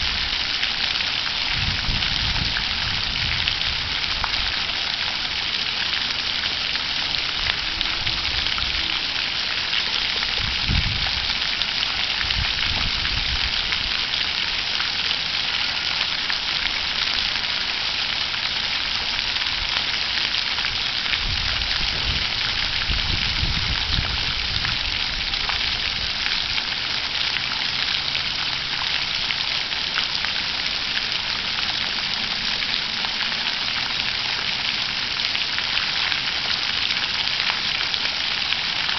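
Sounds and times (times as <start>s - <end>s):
water fountain splashing: 0.0s - 38.9s.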